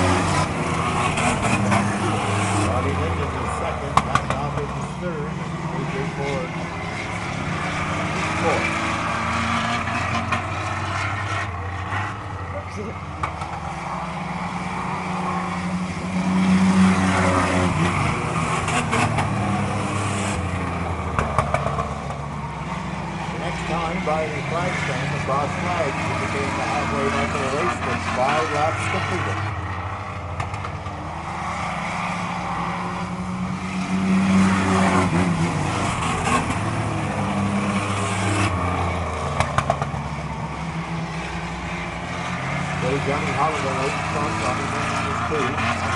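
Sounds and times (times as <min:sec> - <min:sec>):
race truck engines passing: 0:00.0 - 0:45.9.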